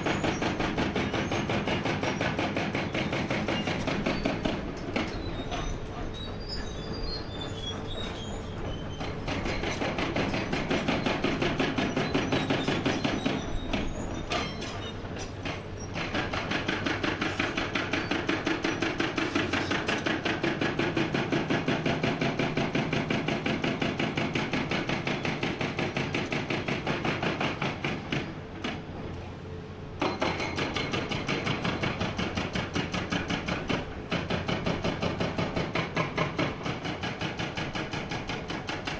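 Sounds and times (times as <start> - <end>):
hydraulic breaker pounding rock: 0.0 - 29.1, 30.0 - 38.9.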